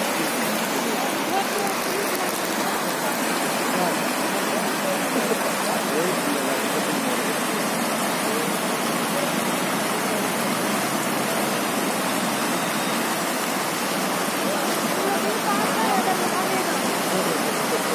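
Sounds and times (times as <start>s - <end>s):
floodwater rushing: 0.0s - 17.9s.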